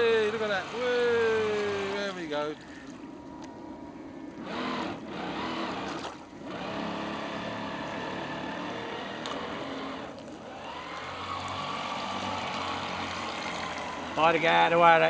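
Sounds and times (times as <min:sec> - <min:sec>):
model speedboat motor whining: 0:00.0 - 0:15.0.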